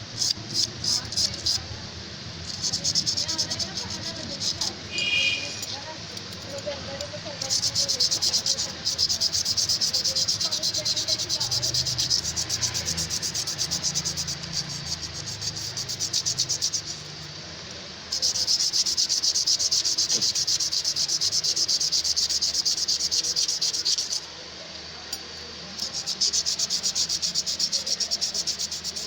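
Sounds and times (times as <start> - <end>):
rasping strokes on steel blade: 0.0 - 1.7, 2.4 - 17.2, 18.1 - 24.3, 25.8 - 29.0.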